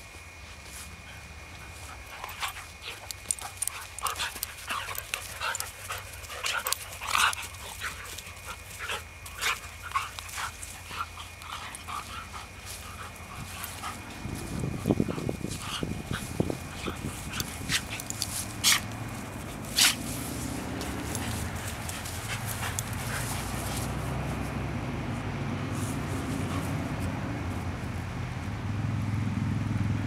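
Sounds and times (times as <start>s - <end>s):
dogs panting: 0.9s - 24.6s, 25.8s - 27.2s.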